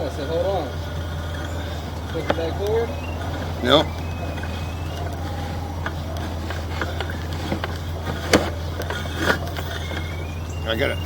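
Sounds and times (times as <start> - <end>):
faint clicks: 0.0 - 11.0
low engine hum: 0.0 - 11.0.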